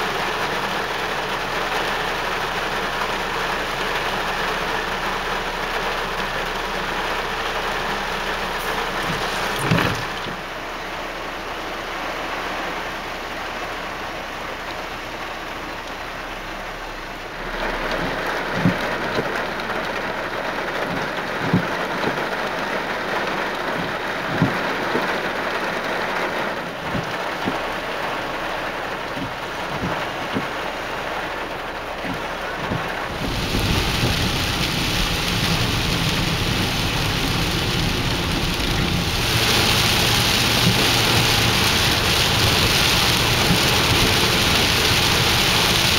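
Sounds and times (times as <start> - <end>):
heavy rain pouring: 0.0 - 45.9
raindrops tapping close by: 0.1 - 10.6, 17.5 - 45.9.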